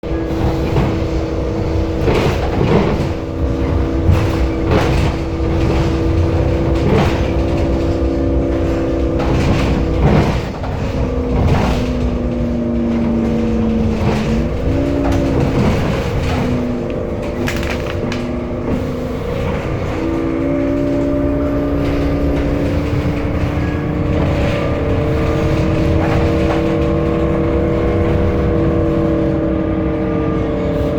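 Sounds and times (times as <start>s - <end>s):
bus engine rumble and whine: 0.0s - 30.9s.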